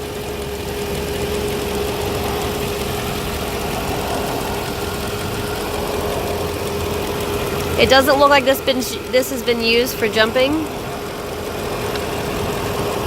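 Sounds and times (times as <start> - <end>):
car engine idling: 0.0 - 13.0
steady whine: 0.0 - 13.0.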